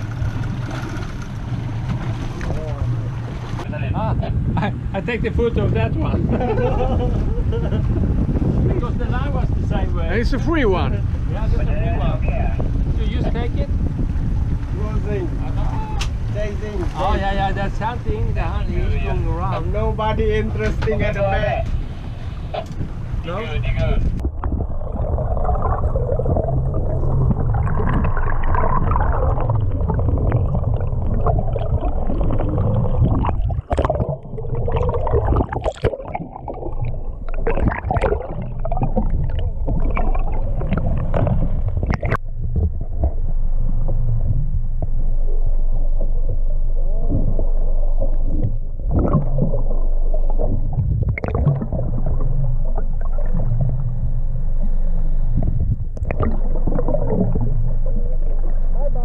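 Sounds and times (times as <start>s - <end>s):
muffled water gurgling and sloshing: 0.0s - 59.0s.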